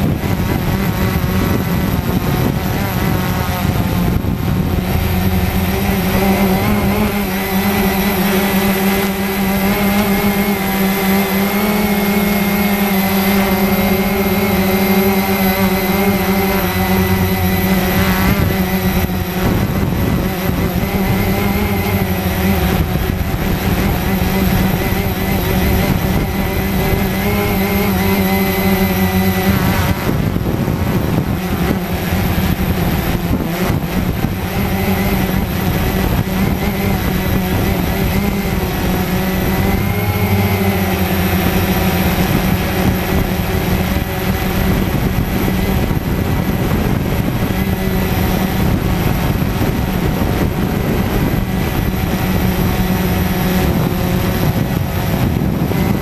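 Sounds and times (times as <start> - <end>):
drone propeller whine: 0.0 - 56.0.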